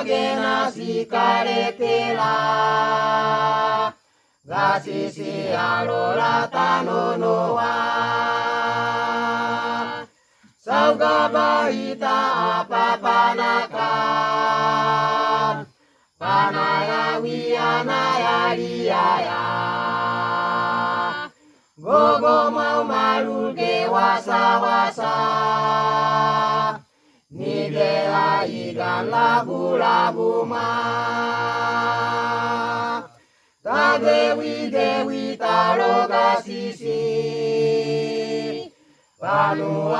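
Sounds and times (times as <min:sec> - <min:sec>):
mixed choir singing a hymn: 0:00.0 - 0:39.9.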